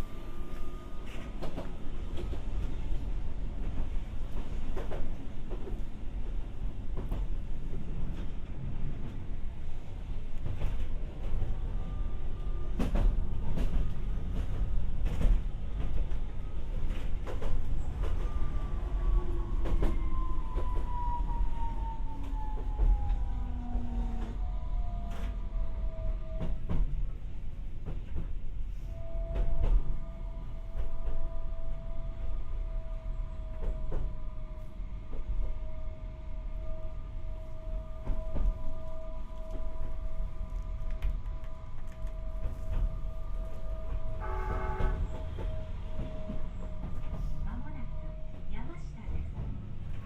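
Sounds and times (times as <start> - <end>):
train interior rumble: 0.0 - 50.0.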